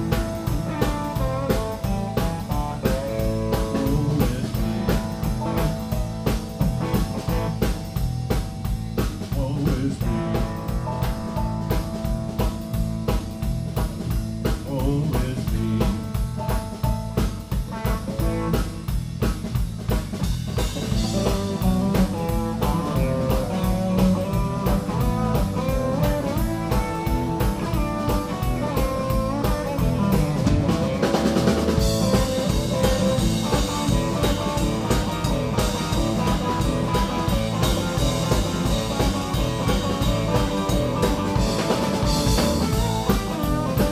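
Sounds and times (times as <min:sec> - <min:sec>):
bass guitar: 0:00.0 - 0:43.9
drum kit beat: 0:00.0 - 0:43.9
electric guitar: 0:00.0 - 0:43.9.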